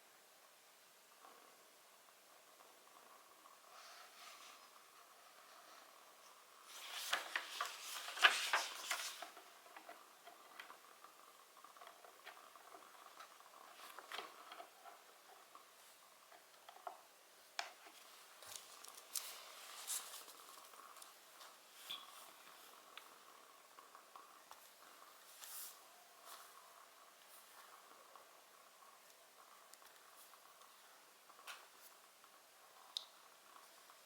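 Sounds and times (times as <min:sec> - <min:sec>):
wood fire crackling: 0:02.0 - 0:34.0.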